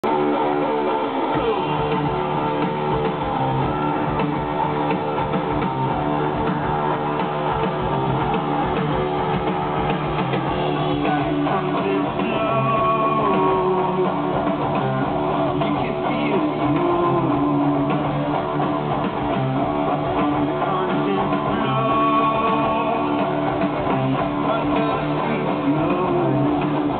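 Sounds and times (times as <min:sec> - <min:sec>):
live rock band playing: 0:00.0 - 0:26.9.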